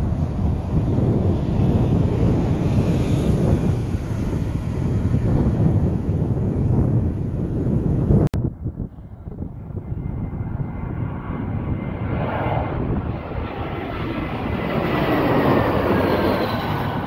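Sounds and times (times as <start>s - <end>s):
high engine whine: 0.0s - 17.0s
jet airliner passing overhead: 0.0s - 17.0s.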